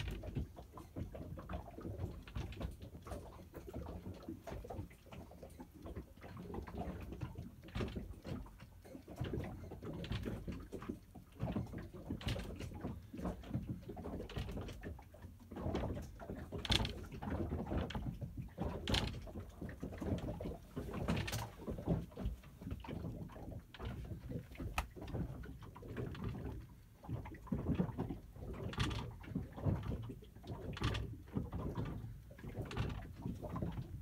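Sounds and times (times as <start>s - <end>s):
wooden boat cabin creaks and knocks: 0.0s - 34.0s.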